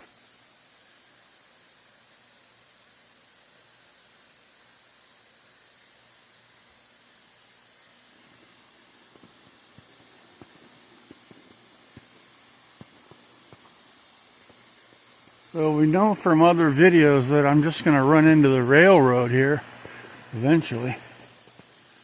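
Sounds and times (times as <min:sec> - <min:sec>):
power lines hissing and crackling: 0:00.0 - 0:22.0.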